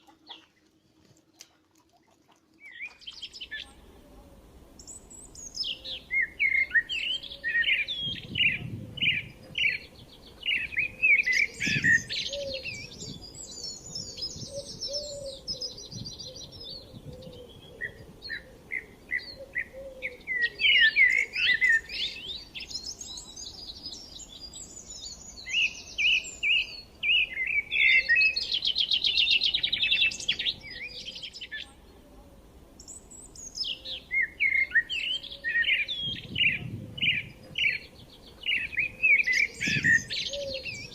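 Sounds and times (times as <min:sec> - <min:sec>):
songbird chirps and trills: 0:00.0 - 0:40.9.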